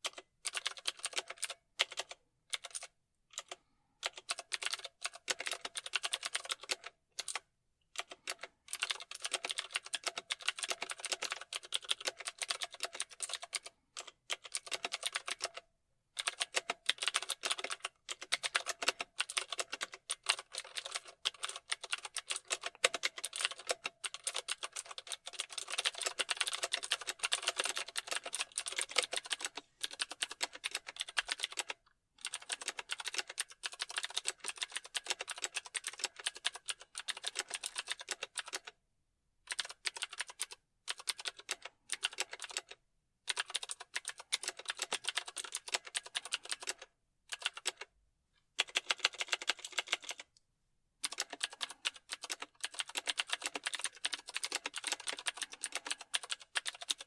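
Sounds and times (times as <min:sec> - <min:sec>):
keyboard typing: 0:00.0 - 0:15.6, 0:16.2 - 0:38.8, 0:39.5 - 0:47.9, 0:48.6 - 0:50.4, 0:51.0 - 0:57.0.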